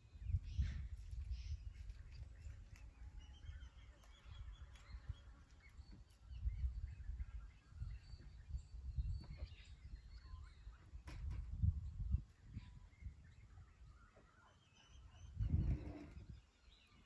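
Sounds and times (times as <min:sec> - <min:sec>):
wind buffeting microphone: 0:00.0 - 0:14.1, 0:15.1 - 0:17.0
small birds chirping faintly: 0:00.0 - 0:17.0.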